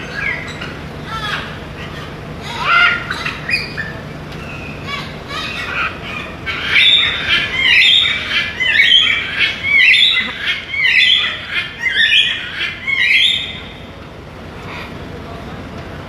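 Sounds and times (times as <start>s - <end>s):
macaw squawking: 0.0s - 13.9s.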